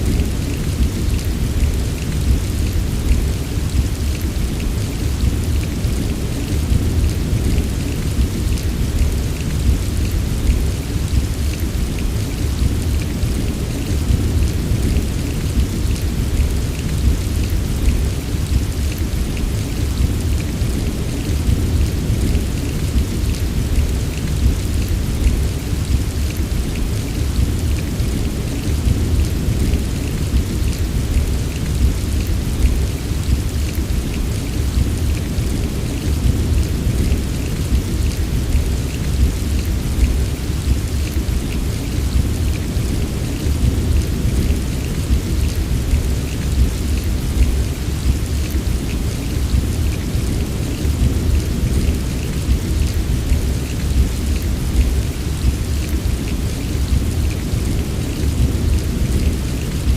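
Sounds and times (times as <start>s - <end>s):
heavy rainfall: 0.0s - 59.9s
raindrops tapping: 0.0s - 59.9s.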